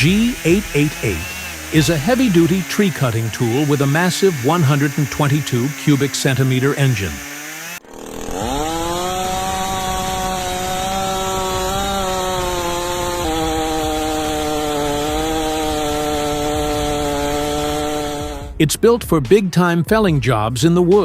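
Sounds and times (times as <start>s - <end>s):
chainsaw engine revving: 0.0s - 18.6s.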